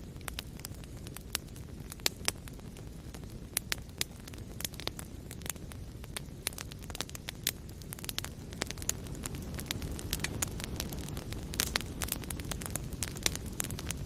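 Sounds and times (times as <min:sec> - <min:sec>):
fire crackling and popping: 0:00.0 - 0:14.0
low rumble of flame: 0:00.0 - 0:14.0.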